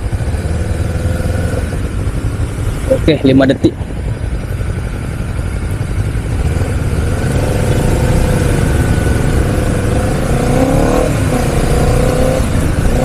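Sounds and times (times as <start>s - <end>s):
motorcycle accelerating: 0.0s - 13.0s.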